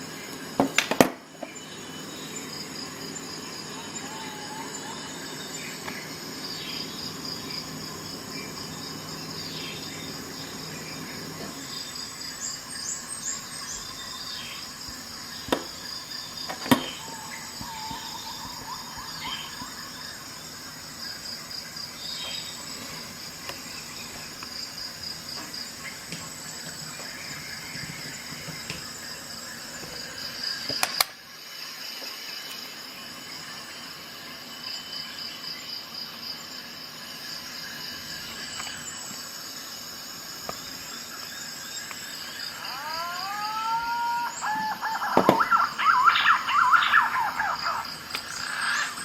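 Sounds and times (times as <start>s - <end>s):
crickets chirping: 0.0s - 49.0s.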